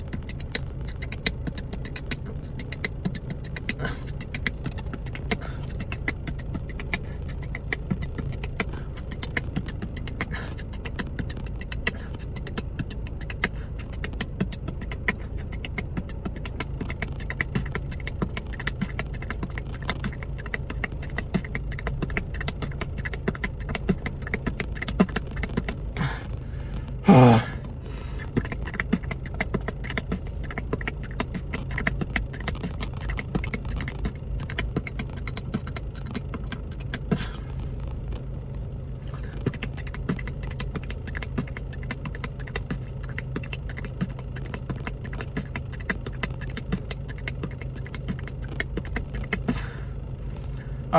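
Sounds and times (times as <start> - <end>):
beatboxing: 0.0 - 37.6, 39.1 - 50.9
car engine hum: 0.0 - 50.9.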